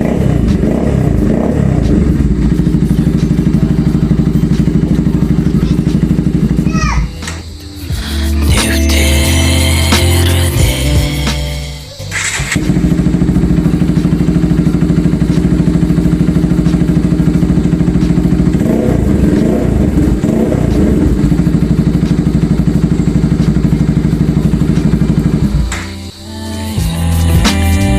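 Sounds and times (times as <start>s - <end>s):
engine throttle blips: 0.0s - 26.3s
motorcycle engine idling: 0.0s - 27.9s.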